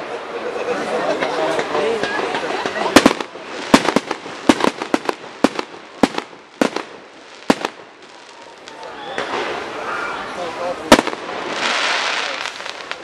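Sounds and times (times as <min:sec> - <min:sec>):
fireworks bangs and cracks: 0:01.5 - 0:09.8, 0:10.5 - 0:13.0.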